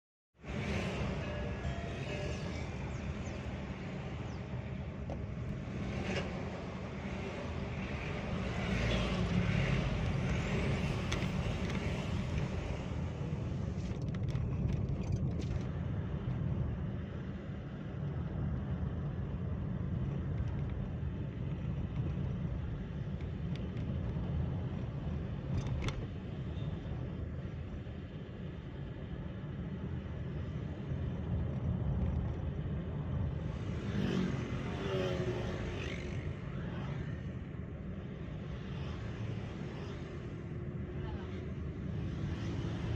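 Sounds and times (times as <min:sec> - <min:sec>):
car engine and tyre rumble: 0:00.4 - 0:42.9.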